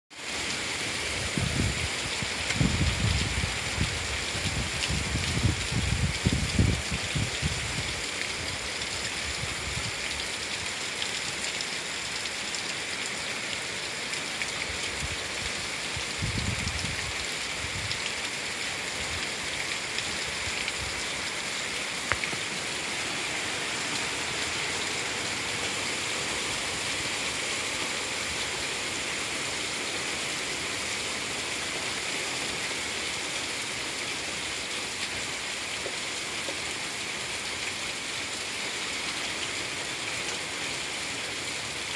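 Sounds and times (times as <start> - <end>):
heavy rain on road: 0.2 - 41.9.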